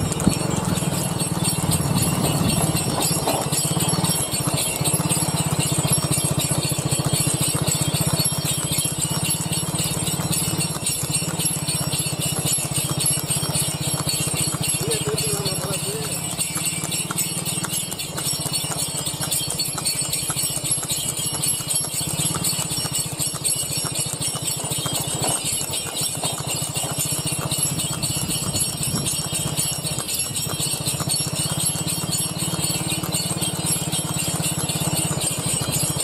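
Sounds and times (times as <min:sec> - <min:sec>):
harness bells jingling: 0:00.0 - 0:36.0
hooves clip-clopping on pavement: 0:00.0 - 0:36.0.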